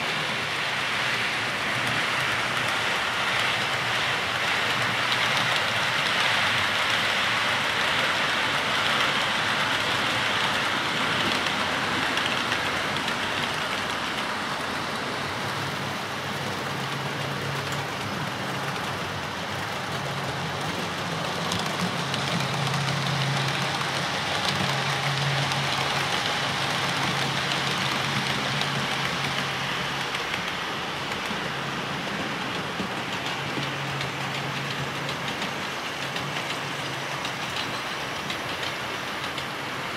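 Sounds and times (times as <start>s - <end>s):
model train wheels hissing: 0.0s - 39.9s.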